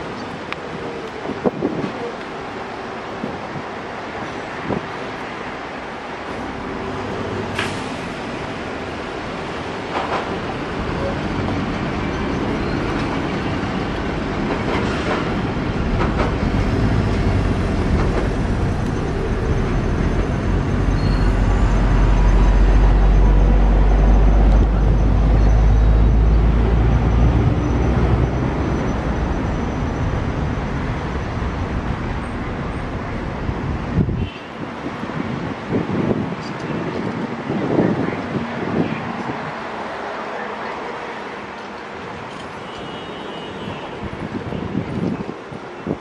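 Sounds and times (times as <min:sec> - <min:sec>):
diesel locomotive rumble: 0:00.0 - 0:42.3.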